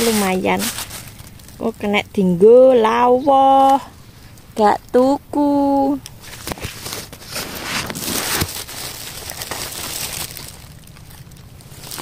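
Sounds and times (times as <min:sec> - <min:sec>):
leaves and clothing rustling: 0:00.0 - 0:04.6, 0:06.1 - 0:12.0.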